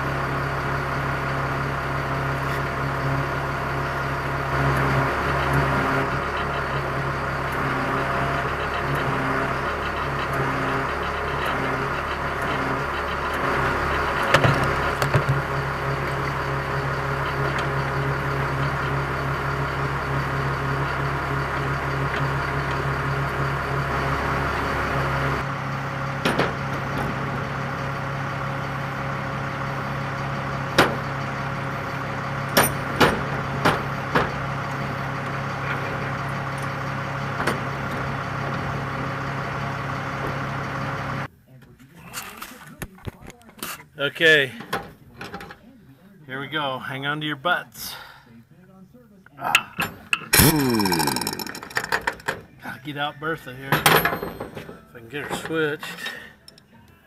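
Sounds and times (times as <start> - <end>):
engine idling: 0.0 - 42.8, 47.8 - 57.0.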